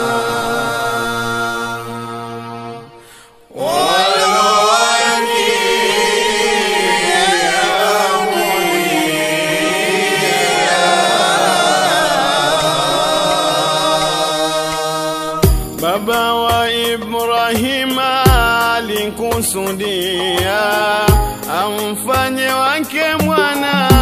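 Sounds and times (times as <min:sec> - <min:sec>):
voices singing devotional song: 0:00.0 - 0:24.0.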